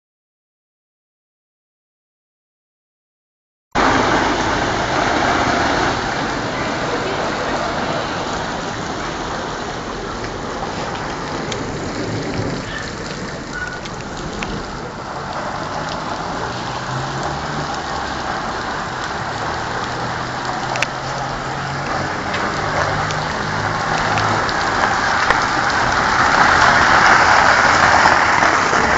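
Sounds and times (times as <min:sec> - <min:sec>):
hail ticking on hard surfaces: 0:03.8 - 0:28.9
heavy rain hissing: 0:03.8 - 0:28.9.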